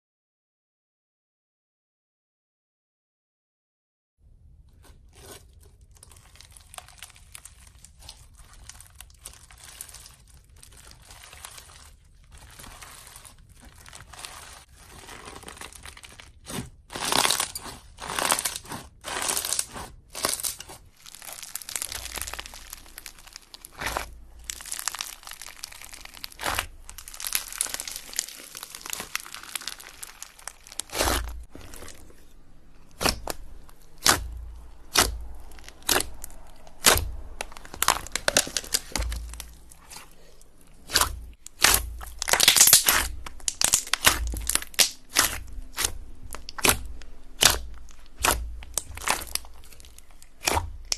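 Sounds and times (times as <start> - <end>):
slime crackling and crunching: 4.7 - 50.9.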